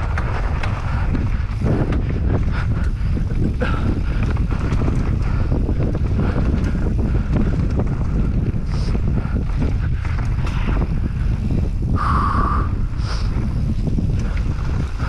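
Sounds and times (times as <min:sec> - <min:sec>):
bike rattling and knocking: 0:00.0 - 0:15.0
wind rush on microphone: 0:00.0 - 0:15.0.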